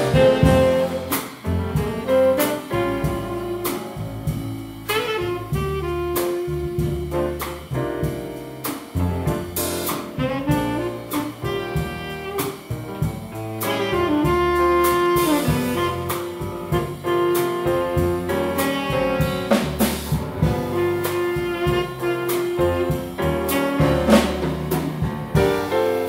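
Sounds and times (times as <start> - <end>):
saxophone melody: 0.0 - 4.0, 4.8 - 7.5, 9.2 - 24.5
drum and cymbal strokes: 0.0 - 26.0
jazz quartet playing: 0.0 - 26.0.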